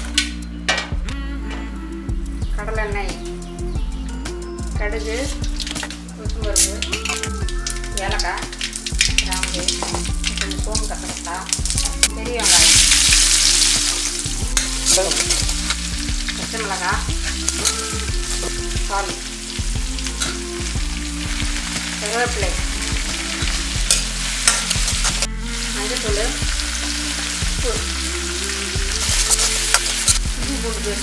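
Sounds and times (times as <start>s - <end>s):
vegetables sizzling in hot oil: 5.0s - 31.0s.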